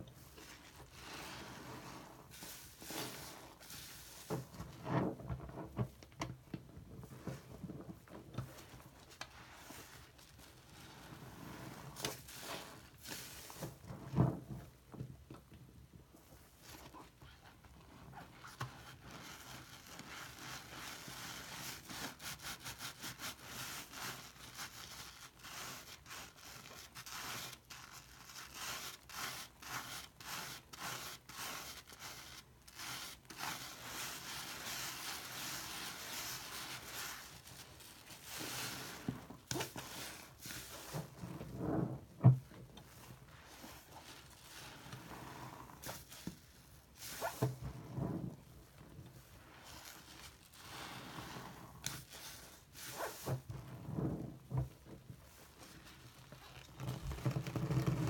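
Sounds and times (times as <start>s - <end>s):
sponge squishing with foam: 0.0s - 5.9s, 7.0s - 14.6s, 16.6s - 58.0s.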